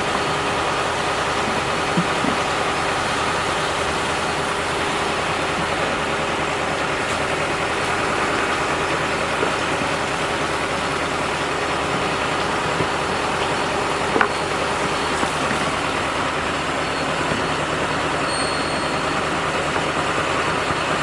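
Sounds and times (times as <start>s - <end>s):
vacuum truck engine droning: 0.0s - 21.0s.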